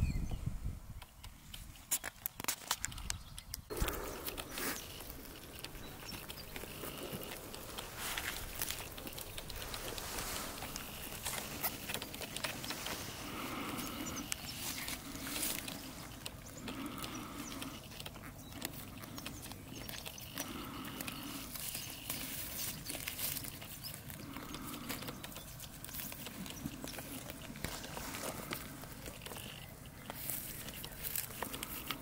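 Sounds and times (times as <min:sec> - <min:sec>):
sheep tearing and chewing grass: 0:03.7 - 0:32.0
slow breathing: 0:03.7 - 0:32.0.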